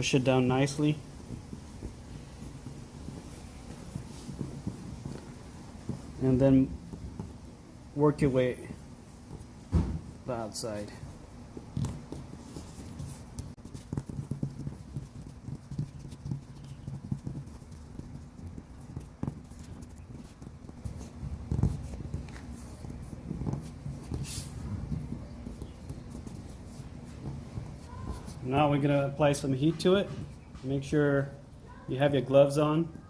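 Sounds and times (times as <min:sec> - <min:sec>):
hands rubbing plastic hull: 0:00.0 - 0:07.8, 0:08.8 - 0:30.5.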